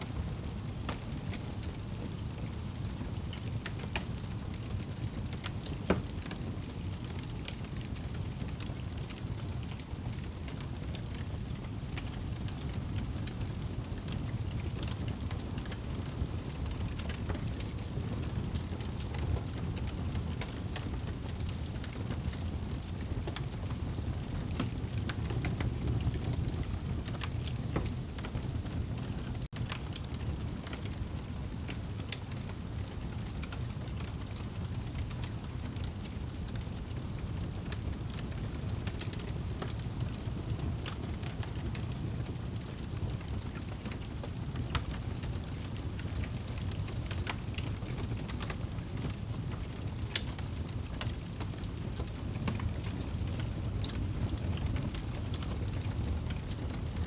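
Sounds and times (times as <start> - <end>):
fire crackling and popping: 0.1 - 57.0.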